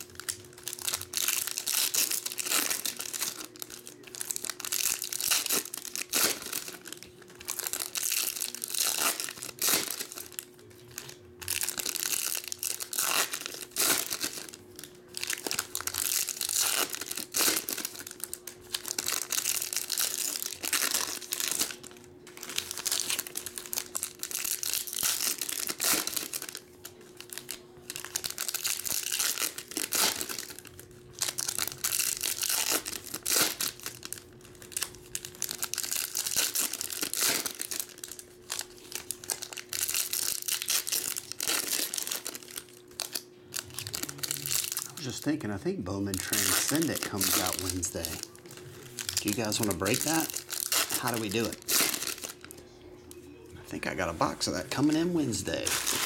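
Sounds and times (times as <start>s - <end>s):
foil wrappers tearing and crinkling: 0.0s - 52.6s, 53.8s - 56.0s.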